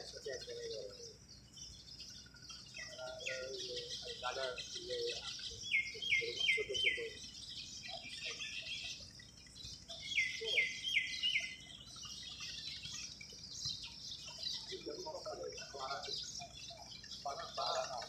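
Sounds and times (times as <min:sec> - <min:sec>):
many high bird chirps: 0:00.0 - 0:18.0.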